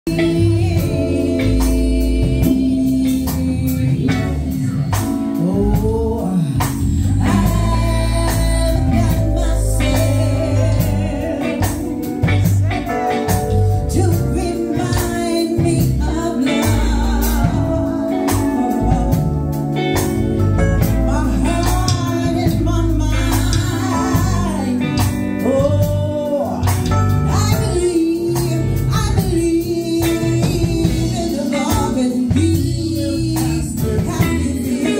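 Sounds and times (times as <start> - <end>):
person singing: 0.1 - 20.1, 20.8 - 34.9
heavy bass: 0.1 - 34.9
live band playing: 0.1 - 34.9
steady drum beat: 0.1 - 34.9.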